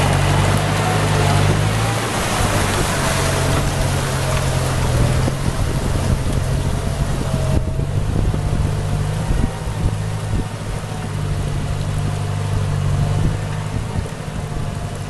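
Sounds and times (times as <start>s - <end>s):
tractor engine running: 0.0s - 15.0s
tyres churning through mud: 0.0s - 15.0s.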